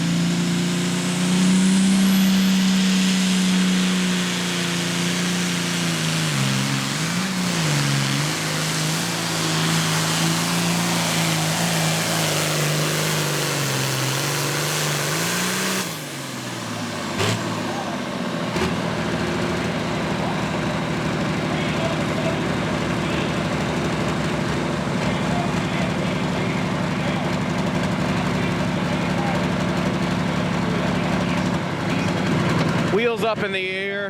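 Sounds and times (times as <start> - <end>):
tractor engine at full throttle: 0.0 - 34.0.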